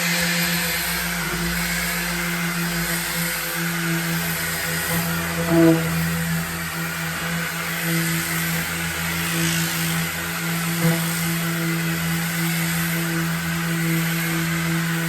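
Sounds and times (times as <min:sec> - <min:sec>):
power sander on wood: 0:00.0 - 0:15.0.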